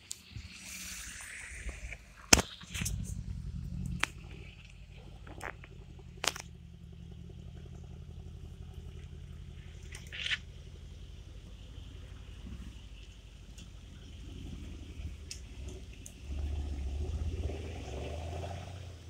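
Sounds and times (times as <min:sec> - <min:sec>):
car engine running low and deep: 0:00.0 - 0:19.0
sharp exhaust cracks: 0:00.0 - 0:19.0.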